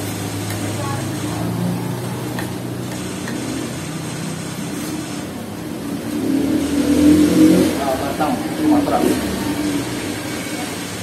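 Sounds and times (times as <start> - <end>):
passing street traffic hum: 0.0 - 11.0.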